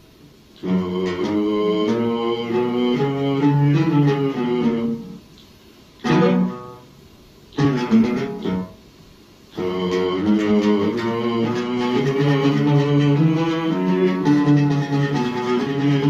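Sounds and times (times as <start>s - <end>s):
oud melody: 0.6s - 5.3s, 6.0s - 6.9s, 7.6s - 8.8s, 9.6s - 16.0s.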